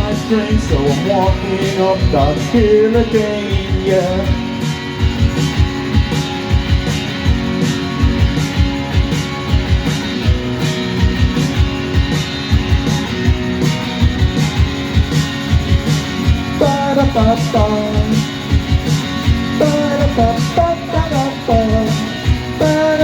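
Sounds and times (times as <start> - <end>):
bass guitar: 0.0 - 23.0
steady drum beat: 0.0 - 23.0
strummed electric guitar: 0.0 - 23.0.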